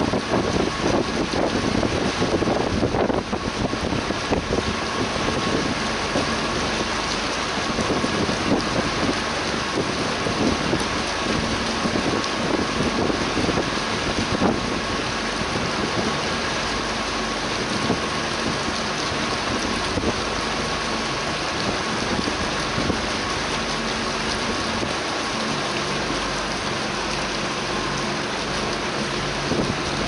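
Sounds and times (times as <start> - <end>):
boat engine humming: 0.0 - 30.0
water churning along hull: 0.0 - 30.0.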